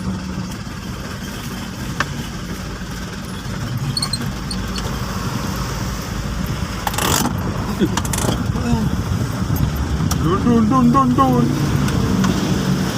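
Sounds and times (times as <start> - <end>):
truck engine running: 0.0 - 12.9.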